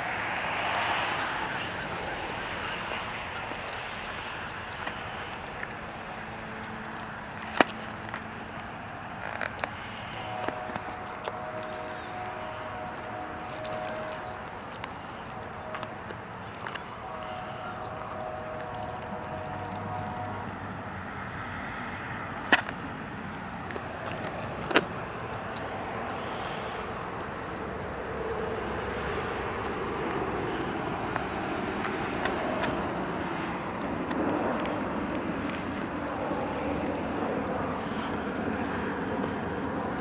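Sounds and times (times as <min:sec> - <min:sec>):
metal chain leash jangling: 0:00.0 - 0:21.4, 0:23.4 - 0:40.0
outdoor background noise: 0:00.0 - 0:40.0.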